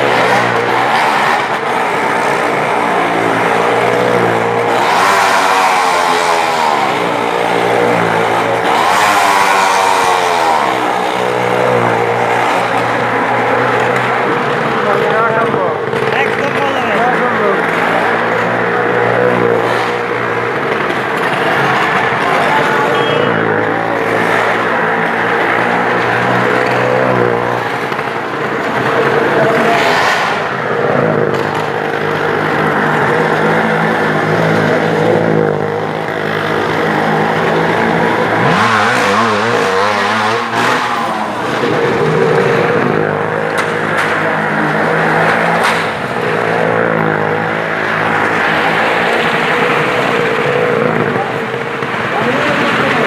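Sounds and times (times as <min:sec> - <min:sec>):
motor vehicle engines revving: 0:00.0 - 0:53.0.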